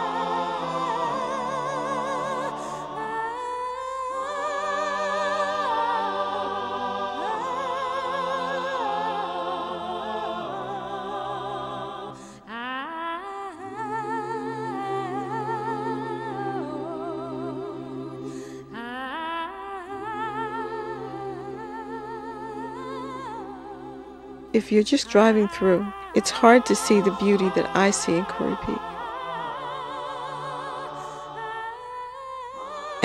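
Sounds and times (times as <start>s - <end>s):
voices singing in harmony: 0.0s - 33.0s.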